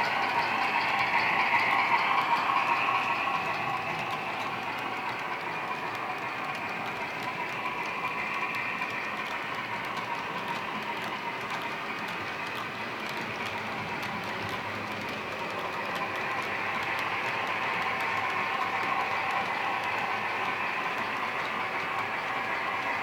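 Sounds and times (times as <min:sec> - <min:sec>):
model steam locomotive sound: 0:00.0 - 0:23.0.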